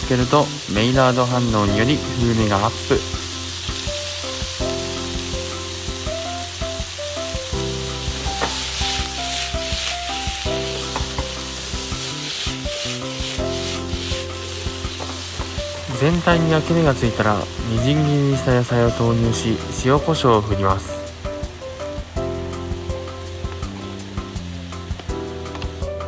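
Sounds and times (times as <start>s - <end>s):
meat sizzling in a frying pan: 0.0s - 26.0s
simple background melody: 0.0s - 26.0s.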